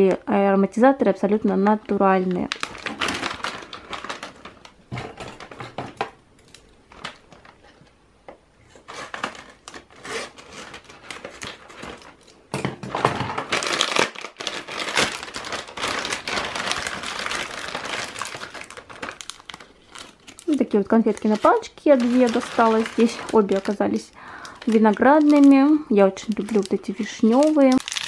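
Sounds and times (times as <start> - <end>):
candy packaging crinkling: 1.0 - 5.8, 6.4 - 7.8, 8.8 - 28.0.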